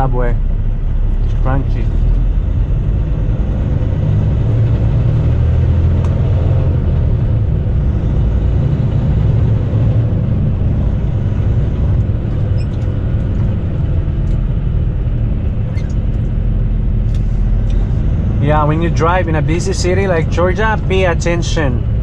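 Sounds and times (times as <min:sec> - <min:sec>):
road noise: 0:00.0 - 0:22.0
truck diesel engine rumble: 0:00.0 - 0:22.0.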